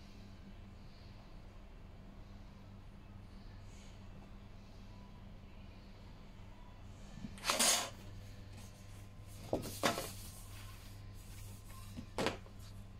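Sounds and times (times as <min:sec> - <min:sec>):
laminator hum: 0:00.0 - 0:12.9.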